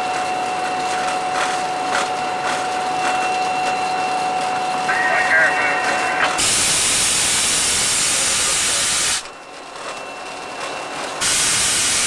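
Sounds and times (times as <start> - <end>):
constant high tone: 0.0 - 6.6, 8.1 - 12.0
locomotive diesel engine running: 0.0 - 12.0.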